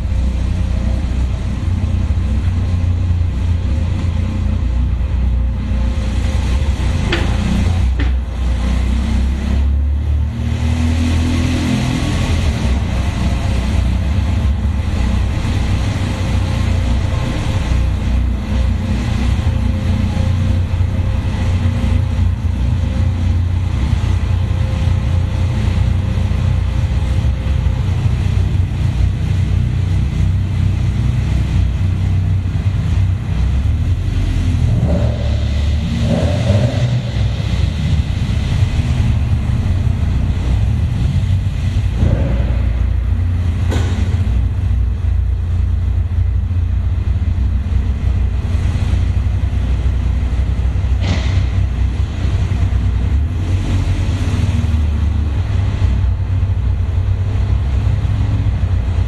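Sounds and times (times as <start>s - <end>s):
sports car engine exhaust: 0.0s - 59.0s.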